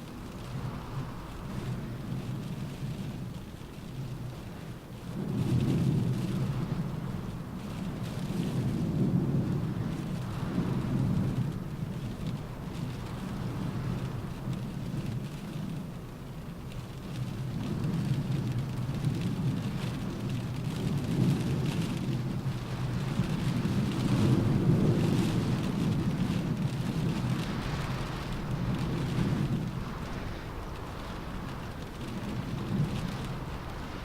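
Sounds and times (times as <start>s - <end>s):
rain pattering on car roof: 0.0s - 34.0s.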